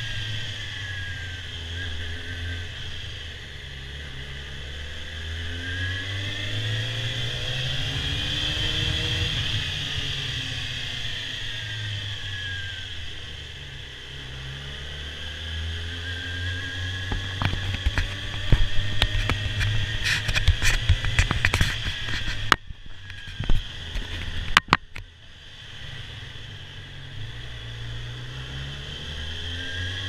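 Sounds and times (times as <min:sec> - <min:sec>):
motorcycle engine at low revs: 0:00.0 - 0:30.0.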